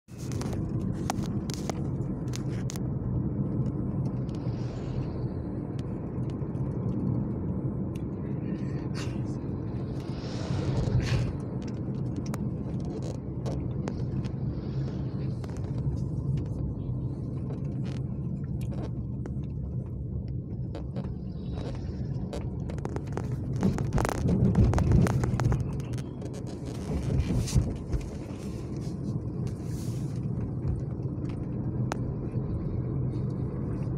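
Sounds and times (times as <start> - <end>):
road and engine rumble inside vehicle: 0.0 - 33.9.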